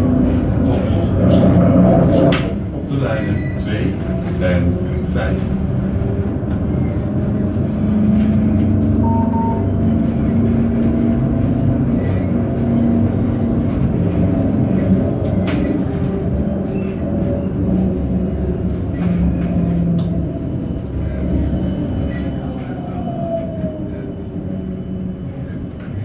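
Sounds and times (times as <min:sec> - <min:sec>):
tram rumbling: 0:00.0 - 0:26.0.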